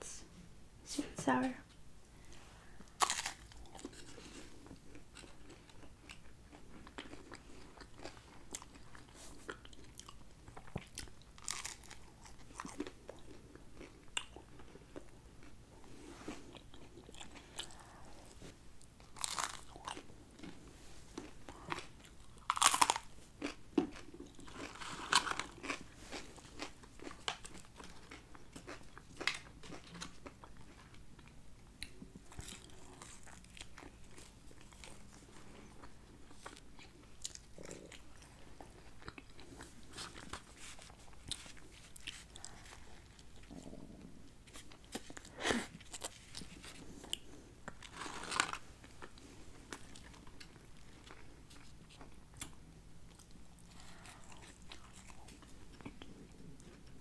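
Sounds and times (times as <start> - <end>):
crunchy eating and wet chewing: 2.2 - 57.0.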